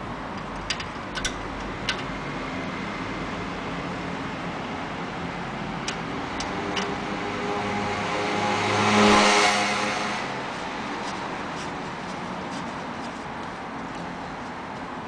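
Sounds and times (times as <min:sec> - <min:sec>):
motor vehicle passing by: 0:02.1 - 0:15.0.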